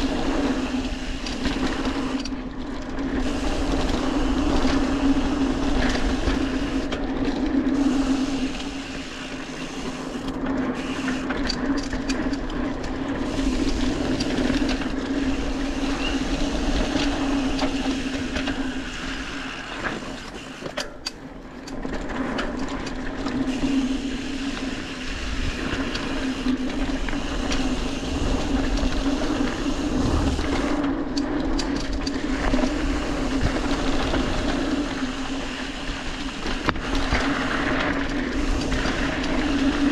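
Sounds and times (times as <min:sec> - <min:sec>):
bike tyre and frame rattle: 0:00.0 - 0:39.9.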